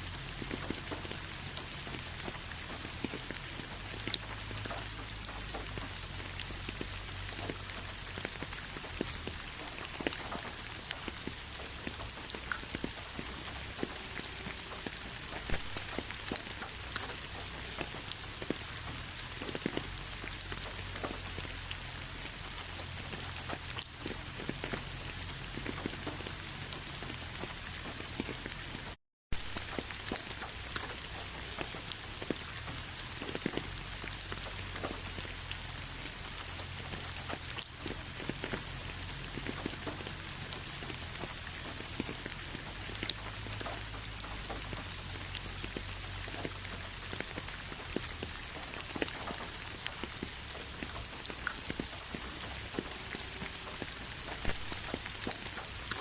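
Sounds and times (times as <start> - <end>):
raindrops clicking: 0.0 - 56.0
steady rainfall: 0.0 - 56.0.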